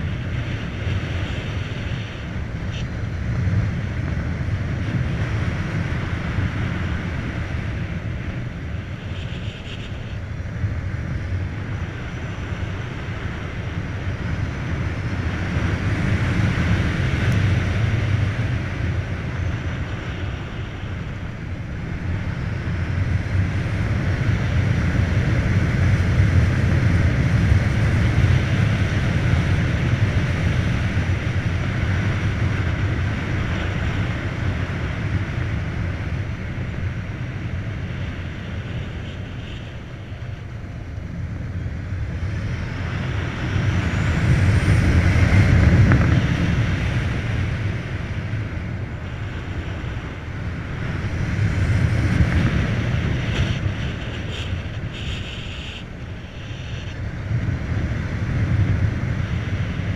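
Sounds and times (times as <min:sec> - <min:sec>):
road noise: 0:00.0 - 0:59.9
wind rushing over microphone: 0:00.0 - 0:59.9.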